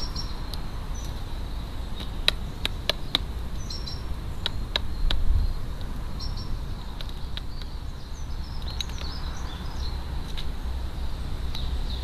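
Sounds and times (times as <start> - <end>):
distant small birds chirping: 0.0 - 12.0
wind rumble on microphone: 0.0 - 12.0.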